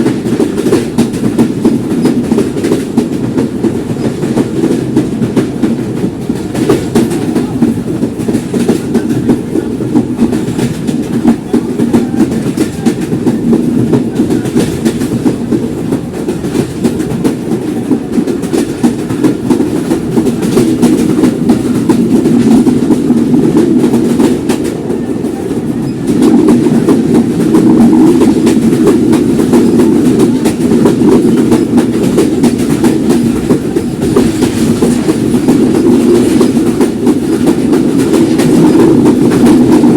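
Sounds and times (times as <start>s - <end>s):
clicks and clacks from rails: 0.0s - 39.9s
train wheels rumbling on track: 0.0s - 39.9s.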